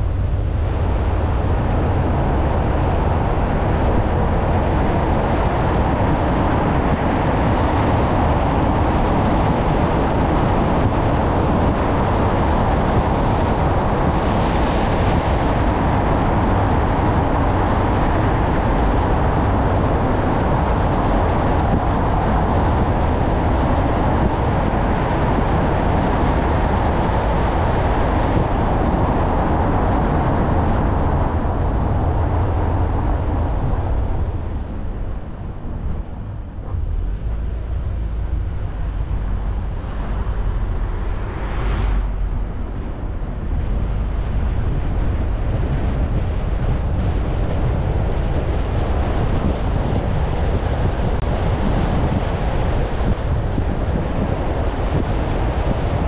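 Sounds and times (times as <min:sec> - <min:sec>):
car driving through tunnel: 0:00.0 - 0:56.0.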